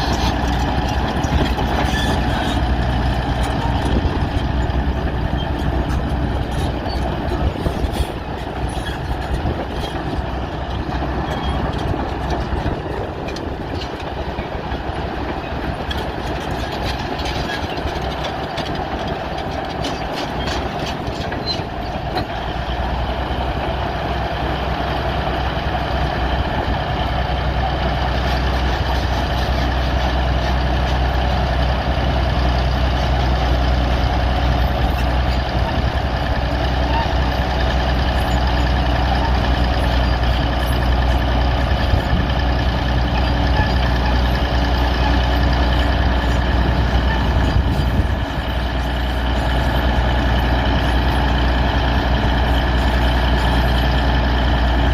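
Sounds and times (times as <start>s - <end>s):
bulldozer diesel engine: 0.0s - 54.9s.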